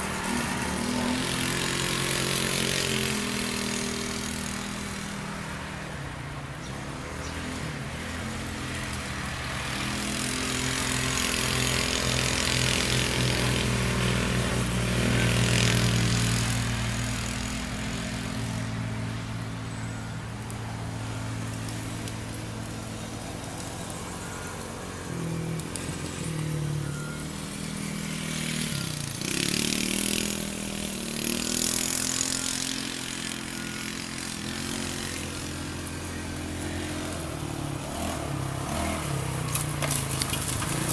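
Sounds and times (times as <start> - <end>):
small engine revving: 0.0 - 40.9.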